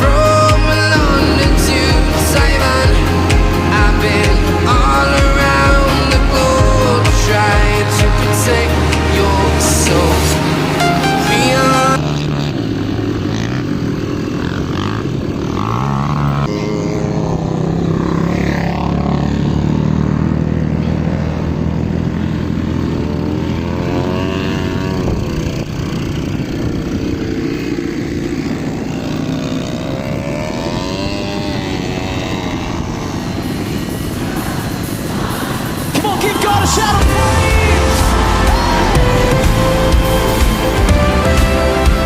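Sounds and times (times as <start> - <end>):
small engine revving: 0.0 - 42.0.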